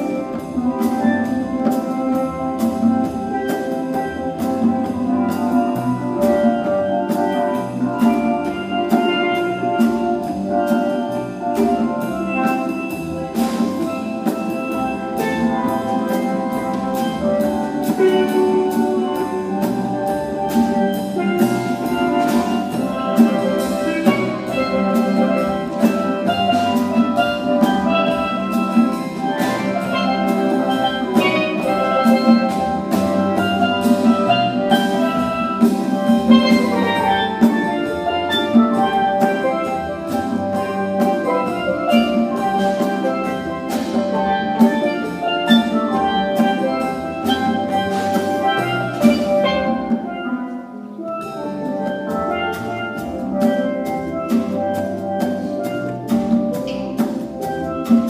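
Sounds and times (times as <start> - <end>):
conga drums rhythm: 0.0 - 58.0
steel drums playing melody: 0.0 - 58.0.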